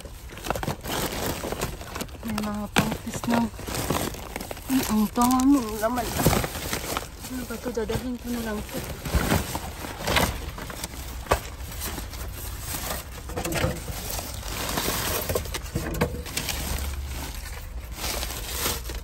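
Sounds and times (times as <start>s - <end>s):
plastic bag and bubble wrap rustling: 0.0s - 19.0s.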